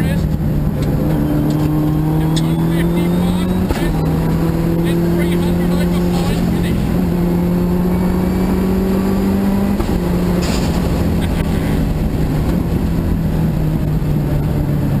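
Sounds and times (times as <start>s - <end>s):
car engine from inside cabin: 0.0s - 15.0s
tyre and road noise: 0.0s - 15.0s.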